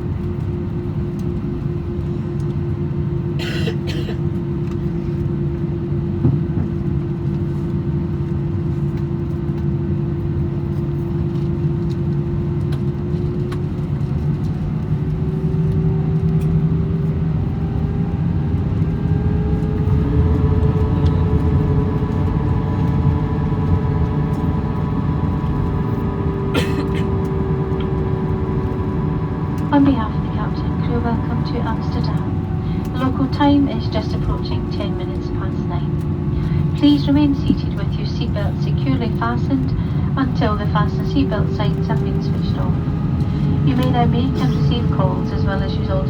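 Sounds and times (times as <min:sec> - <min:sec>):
aircraft cabin rumble: 0:00.0 - 0:46.0.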